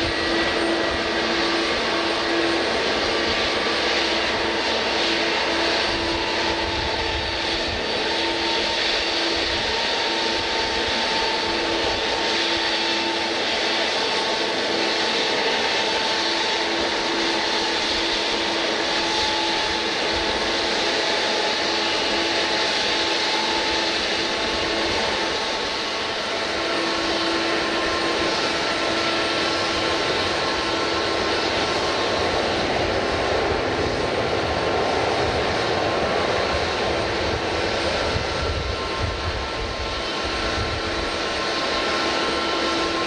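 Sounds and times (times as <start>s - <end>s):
jet engines running: 0.0s - 43.0s.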